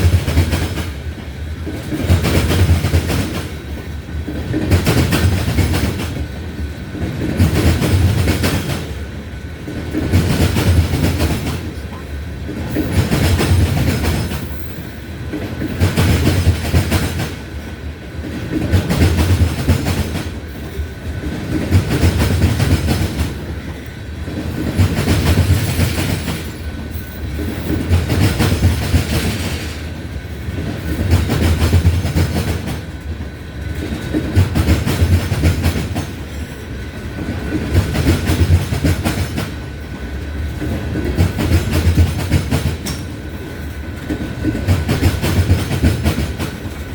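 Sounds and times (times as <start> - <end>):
train wheels clattering over joints: 0.0 - 9.0, 9.6 - 46.9.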